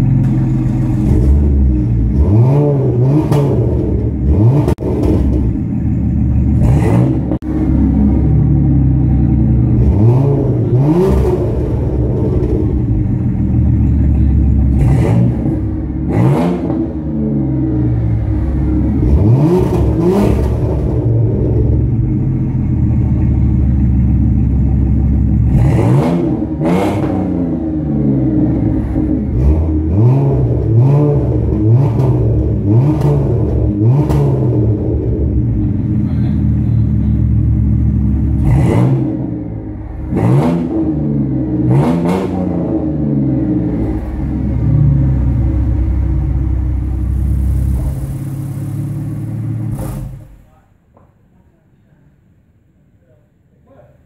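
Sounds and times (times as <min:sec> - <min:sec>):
engine revving: 0:00.0 - 0:50.5
car engines idling: 0:00.0 - 0:53.1.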